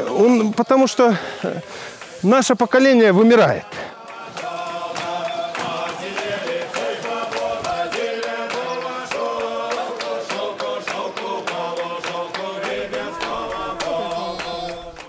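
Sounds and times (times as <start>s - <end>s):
voices singing chant-like music: 0.0s - 15.0s.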